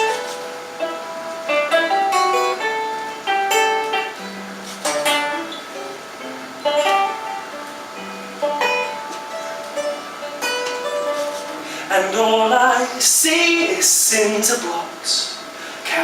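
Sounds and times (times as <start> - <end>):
guitar plucked and strummed: 0.0 - 16.0.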